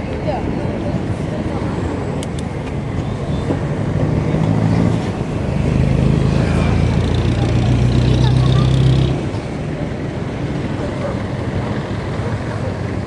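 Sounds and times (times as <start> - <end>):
road and wind rumble: 0.0 - 13.0
vehicle engine hum: 0.0 - 13.0.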